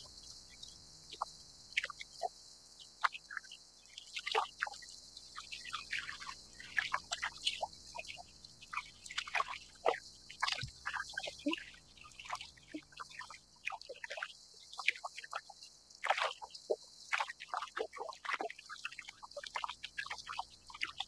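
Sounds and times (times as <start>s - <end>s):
small waves lapping against hull: 1.1s - 21.0s.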